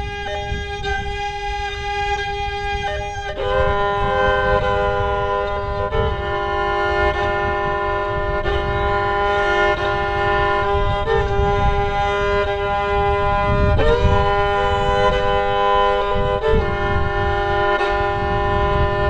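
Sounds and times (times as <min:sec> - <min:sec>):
solo fiddle playing slow air: 0:00.0 - 0:19.0.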